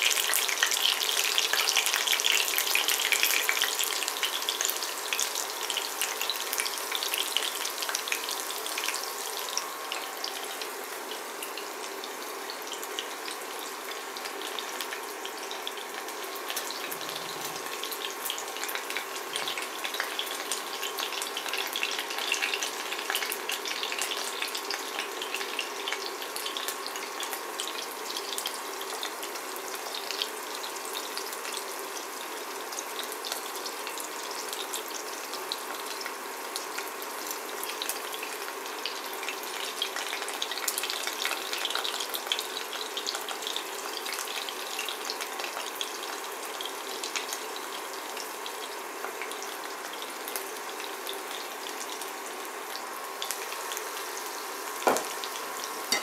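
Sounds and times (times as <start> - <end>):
chicken nuggets sizzling in oil: 0.0 - 56.0.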